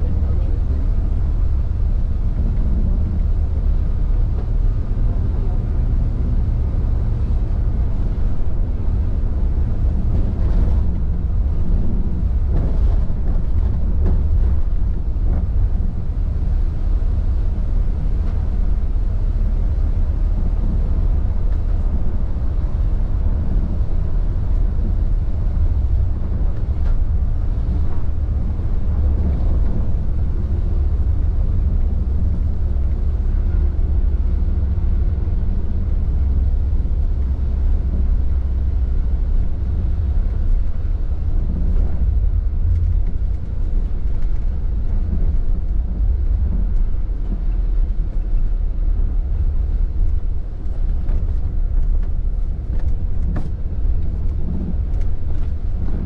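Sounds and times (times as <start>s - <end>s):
coach engine and tyres rumbling: 0.0s - 56.0s.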